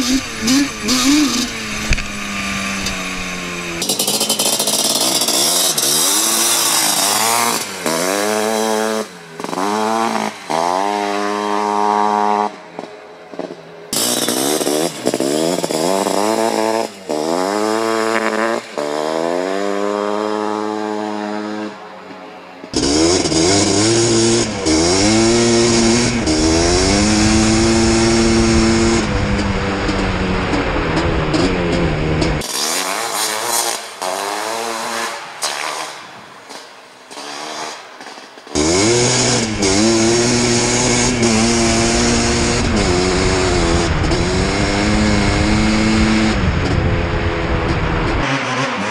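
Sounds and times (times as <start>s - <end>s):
quad engine revving through gears: 0.0s - 21.8s, 22.6s - 48.9s.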